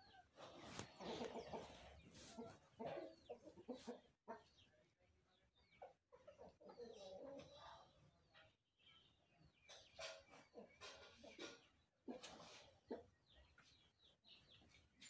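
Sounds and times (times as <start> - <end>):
chickens and turkeys clucking: 0.0 - 15.0.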